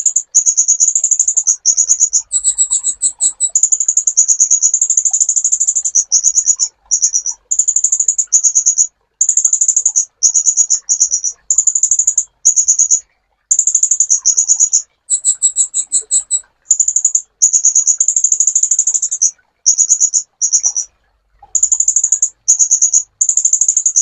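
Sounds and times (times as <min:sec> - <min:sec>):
sunbird buzzy trills: 0:00.0 - 0:24.0.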